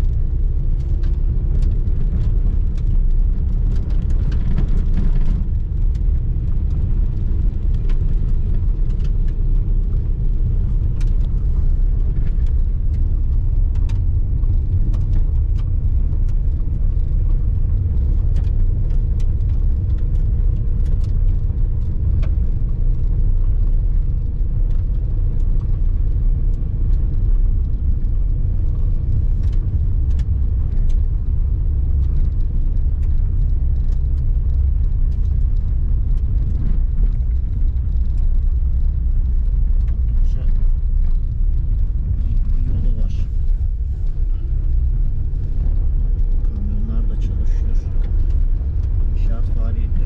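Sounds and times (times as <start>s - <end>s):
car driving on gravel road: 0.0s - 50.0s
small clicks and knocks: 0.8s - 50.0s.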